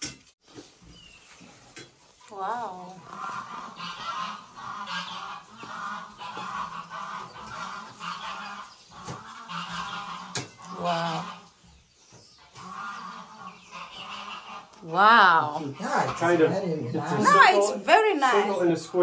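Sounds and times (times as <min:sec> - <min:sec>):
bird calls: 0:00.4 - 0:16.4.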